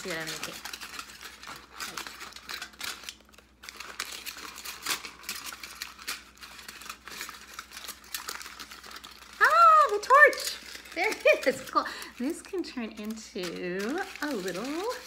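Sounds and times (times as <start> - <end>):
kitchen foil crinkling: 0.0 - 15.0.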